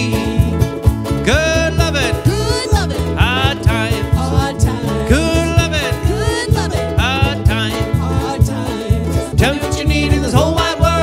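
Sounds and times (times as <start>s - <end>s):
banjo and ukuleles strumming: 0.0s - 11.0s
person singing: 0.0s - 11.0s.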